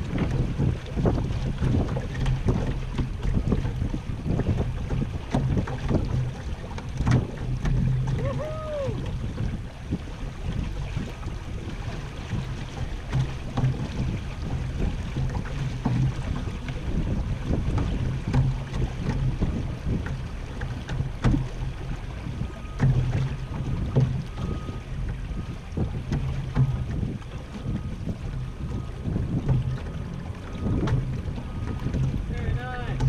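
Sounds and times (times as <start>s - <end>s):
water slapping along hull: 0.0s - 33.0s
wind buffeting microphone: 0.0s - 33.0s.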